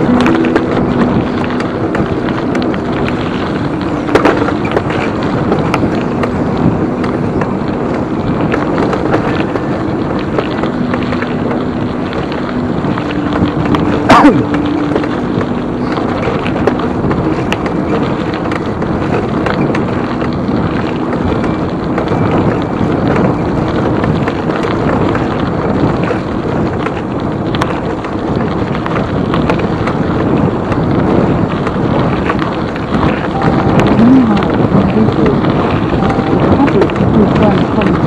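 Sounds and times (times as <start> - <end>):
bike clicks and rattles: 0.0 - 38.0
wind buffeting microphone: 0.0 - 38.0.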